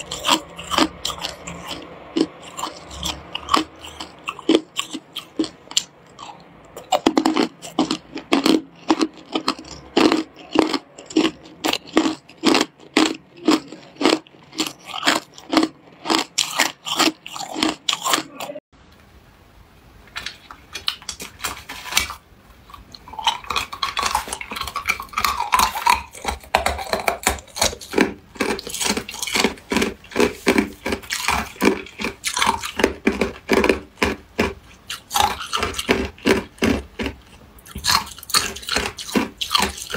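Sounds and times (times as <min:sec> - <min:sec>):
ice being chewed: 0:00.0 - 0:18.6, 0:20.2 - 0:39.9.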